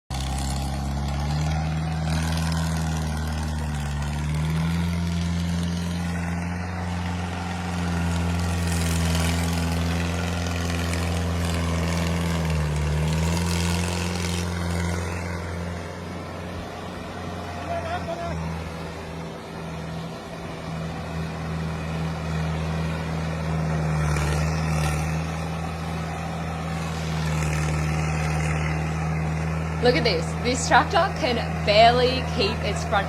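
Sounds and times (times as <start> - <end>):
tractor engine humming: 0.1 - 33.0.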